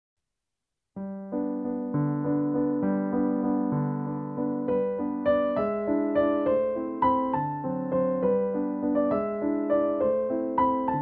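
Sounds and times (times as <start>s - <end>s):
piano playing steady notes: 1.0s - 11.0s.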